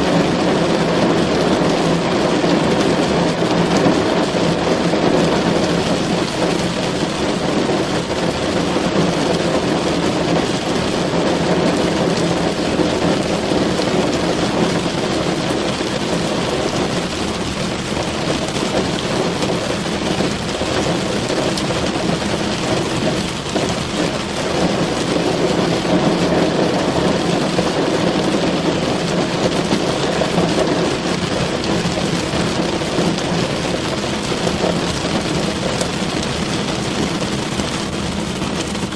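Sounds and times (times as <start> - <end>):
rain on car roof: 0.0 - 38.9.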